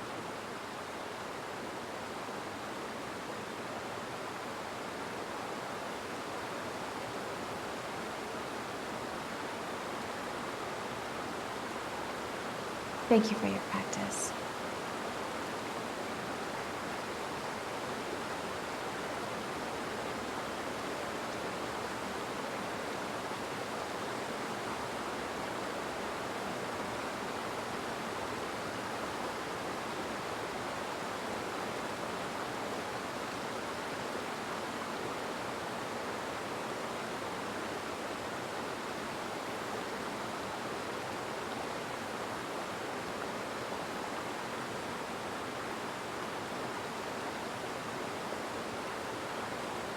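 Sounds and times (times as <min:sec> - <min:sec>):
steady rushing water: 0:00.0 - 0:13.2, 0:14.4 - 0:49.9.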